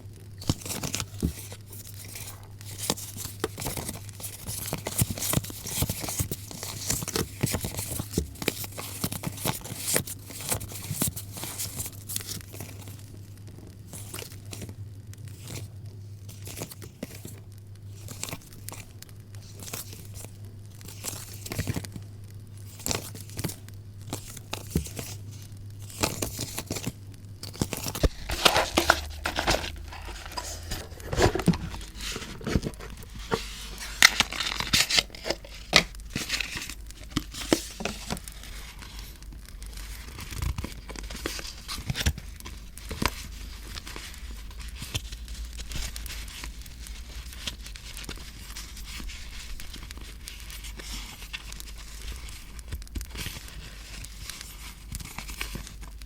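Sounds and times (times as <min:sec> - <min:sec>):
paper rustling and crinkling: 0:00.4 - 0:22.0, 0:22.6 - 0:56.0.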